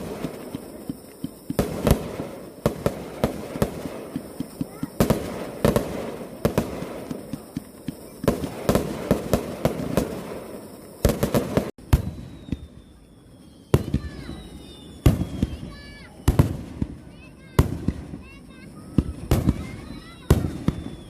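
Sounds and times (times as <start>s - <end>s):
fireworks bangs: 0.0s - 21.0s
fireworks crackle: 0.0s - 21.0s.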